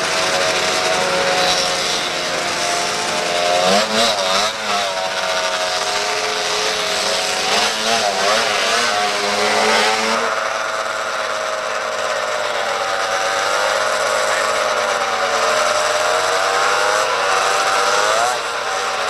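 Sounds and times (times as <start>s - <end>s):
snowmobile engines revving: 0.0s - 19.0s.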